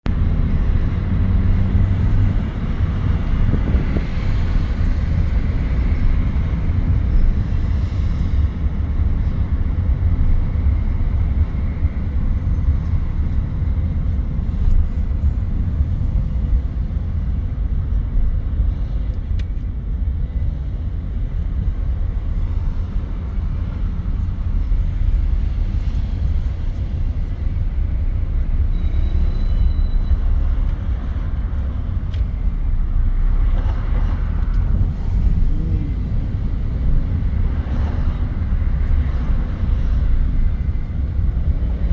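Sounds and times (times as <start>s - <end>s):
car engine and tyre rumble: 0.0s - 41.9s.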